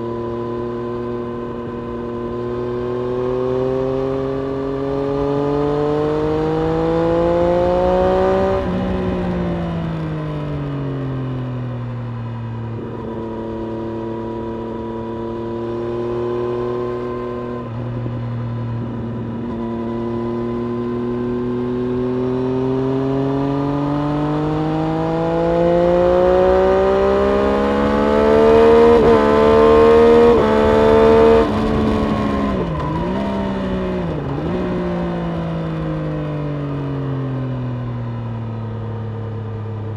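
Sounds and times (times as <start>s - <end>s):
motorcycle engine revving: 0.0s - 11.4s, 12.6s - 37.0s.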